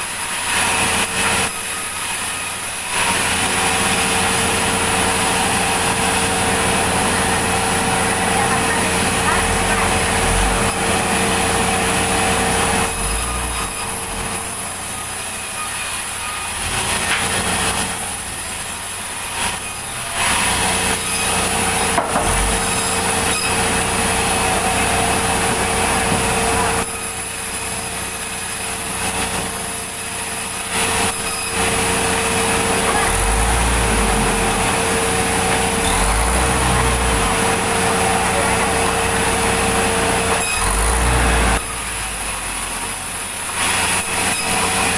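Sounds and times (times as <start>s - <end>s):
saw rasping through log: 0.0s - 44.9s
machine hum: 3.2s - 44.9s.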